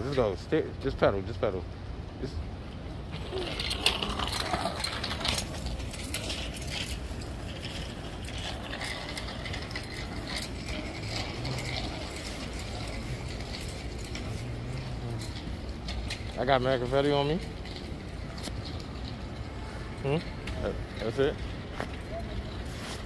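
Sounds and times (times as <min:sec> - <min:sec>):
low outdoor rumble: 0:00.0 - 0:23.0
wheels rolling on wet pavement: 0:03.0 - 0:23.0
light mechanical clicks and rattles: 0:03.1 - 0:22.7.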